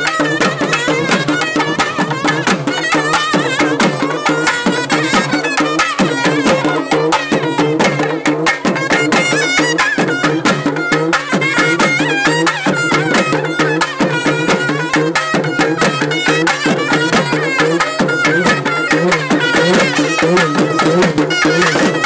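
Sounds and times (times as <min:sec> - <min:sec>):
rapid steady drumming: 0:00.0 - 0:22.0
reedy wind pipe melody: 0:00.0 - 0:22.0.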